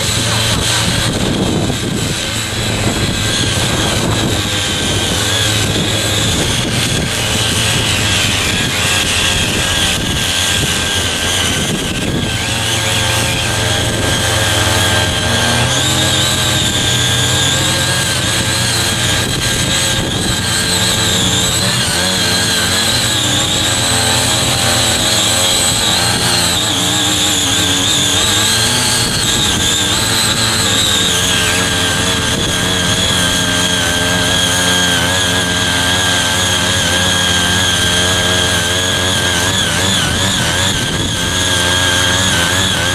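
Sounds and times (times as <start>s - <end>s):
small petrol engine running: 0.0s - 42.9s.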